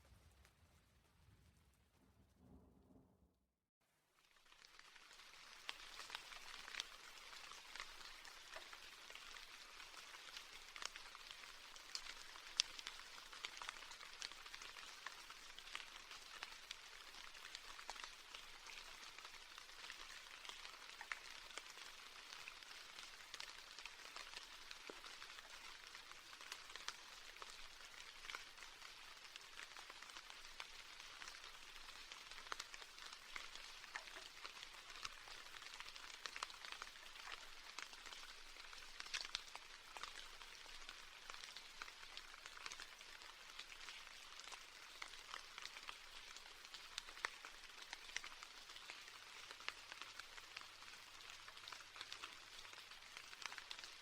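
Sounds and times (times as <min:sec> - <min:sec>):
rain drops ticking: 0:04.2 - 0:54.0.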